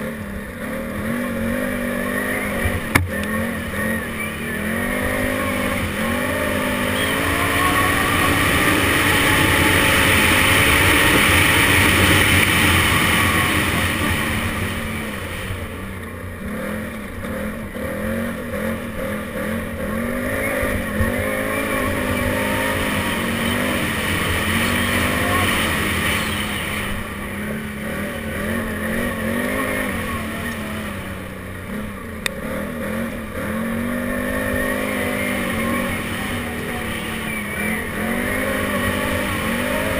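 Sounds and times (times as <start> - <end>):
atv engine revving: 0.0 - 39.9
steady rushing noise: 0.0 - 39.9.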